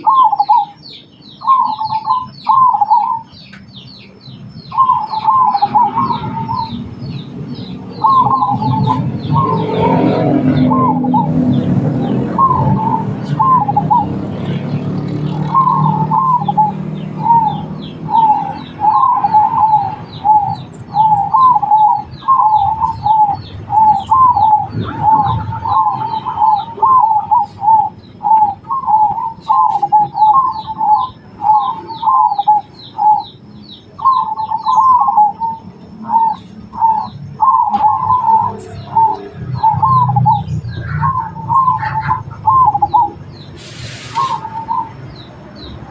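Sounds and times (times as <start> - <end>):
doves cooing: 0.0 - 3.4, 4.6 - 45.9
small birds chirping: 0.0 - 45.9.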